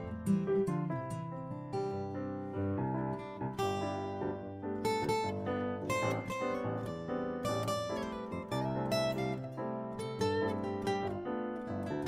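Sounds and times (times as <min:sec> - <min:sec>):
plucked guitar instrumental: 0:00.0 - 0:12.0.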